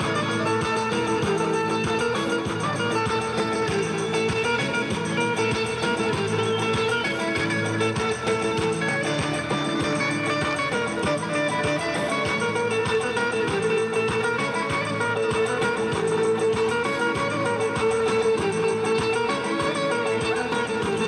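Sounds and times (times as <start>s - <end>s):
plucked guitar over a beat: 0.0s - 21.0s.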